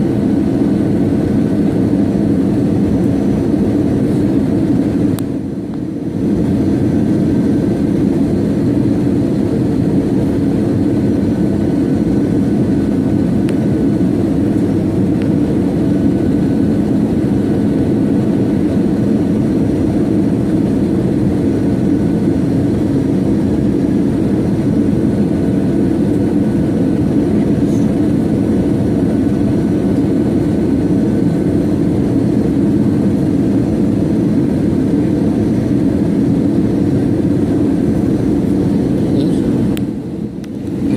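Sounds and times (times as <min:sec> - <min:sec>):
jet airliner cabin drone: 0:00.0 - 0:40.9.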